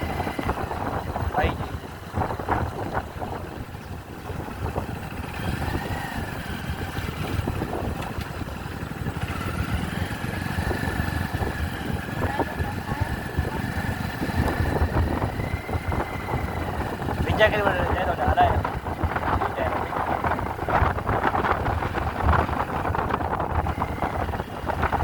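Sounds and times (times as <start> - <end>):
motorcycle running: 0.0 - 25.0
wind rumbling on microphone: 0.0 - 25.0.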